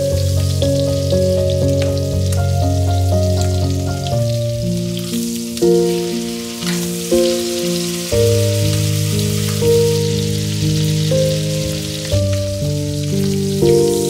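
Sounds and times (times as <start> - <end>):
background music with held notes: 0.0 - 14.0
chicken sizzling in a skillet: 0.0 - 14.0.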